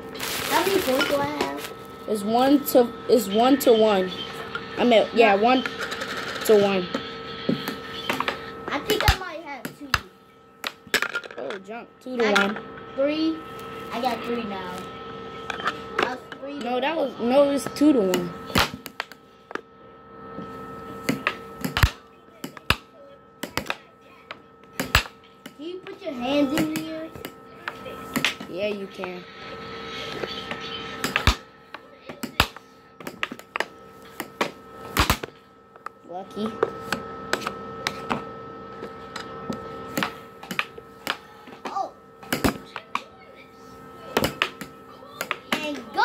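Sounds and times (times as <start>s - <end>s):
air blower hum: 0.0s - 46.0s.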